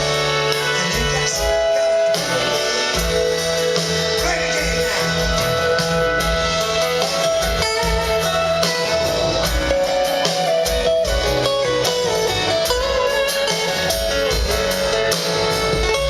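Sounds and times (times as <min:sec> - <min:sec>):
slow soul ballad by band: 0:00.0 - 0:16.0.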